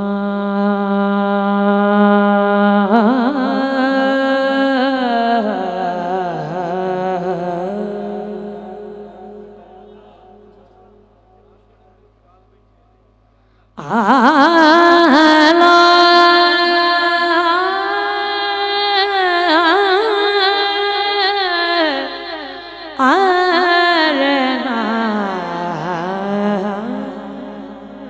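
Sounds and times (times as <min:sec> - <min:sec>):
boy singing into a microphone: 0:00.0 - 0:09.6, 0:13.8 - 0:28.0.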